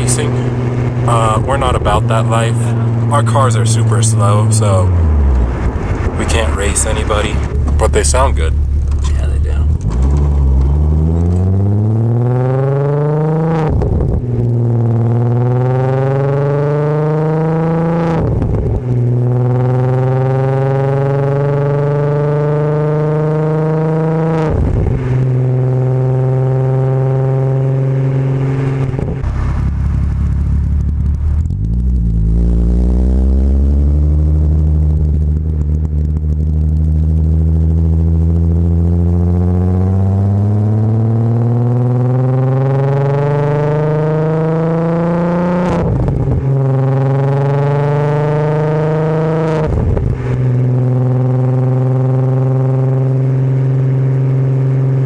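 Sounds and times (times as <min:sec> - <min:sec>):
car engine accelerating through gears: 0:00.0 - 0:55.0.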